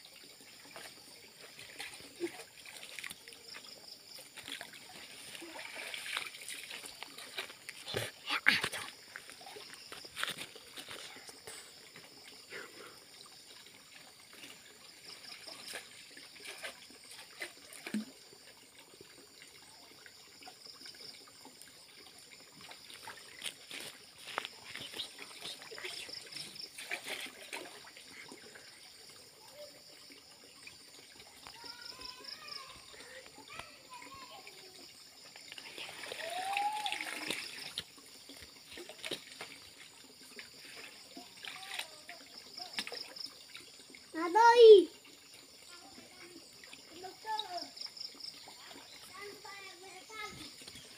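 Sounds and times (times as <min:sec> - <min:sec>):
faint water sloshing and trickling: 0:00.0 - 0:50.9
small splashes: 0:00.0 - 0:50.9.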